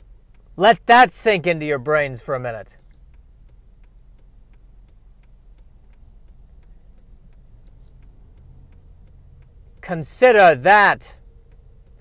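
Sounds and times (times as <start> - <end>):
low hum of running car: 0.0 - 12.0
turn signal clicking: 0.0 - 12.0.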